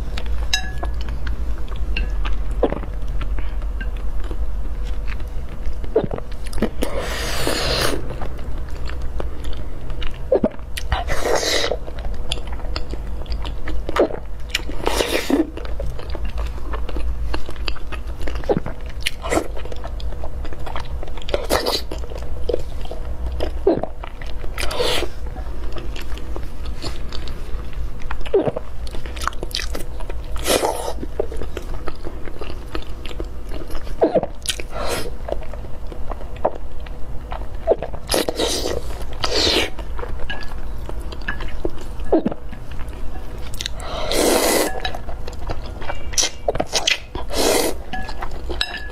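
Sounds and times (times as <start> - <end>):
person chewing and biting: 0.1 - 48.7.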